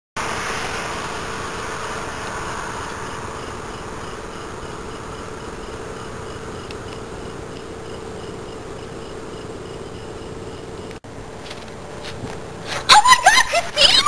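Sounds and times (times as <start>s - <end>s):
faint hum: 0.2s - 14.0s
outdoor hiss: 0.2s - 14.0s
insects chirping: 0.3s - 12.4s.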